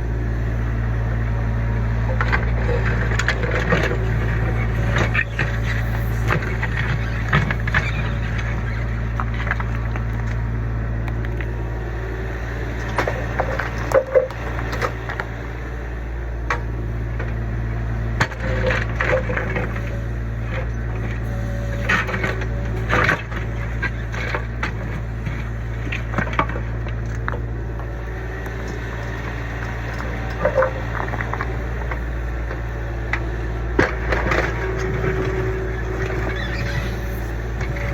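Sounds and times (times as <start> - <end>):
diesel engine running: 0.0 - 37.9
excavator bucket cracking and scraping: 0.2 - 37.9.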